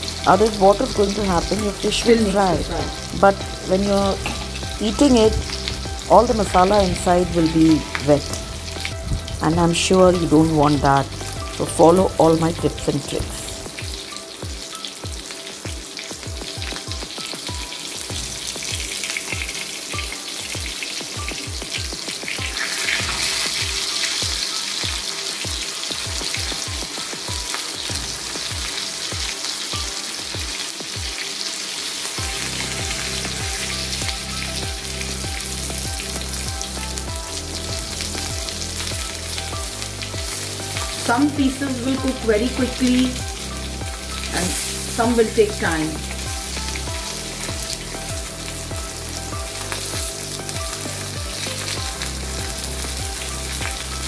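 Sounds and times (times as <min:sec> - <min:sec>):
fish sizzling in hot oil: 0:00.0 - 0:54.0.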